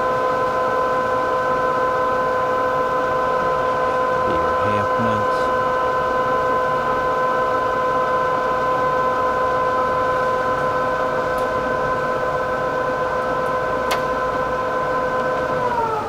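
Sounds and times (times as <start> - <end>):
lathe running with steady whine: 0.1 - 16.0.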